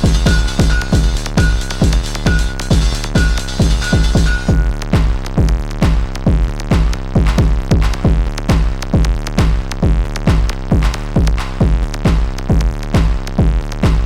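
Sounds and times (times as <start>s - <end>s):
dense synth layers: 0.0s - 14.0s
drum machine kick: 0.0s - 14.0s.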